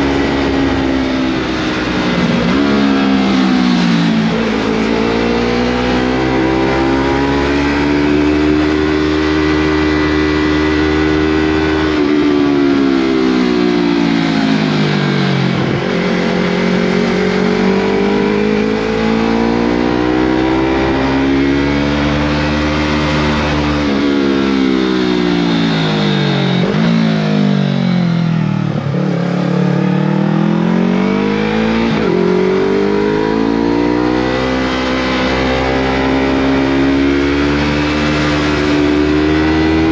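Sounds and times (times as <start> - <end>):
motorcycle engine revving uphill: 0.0 - 39.9.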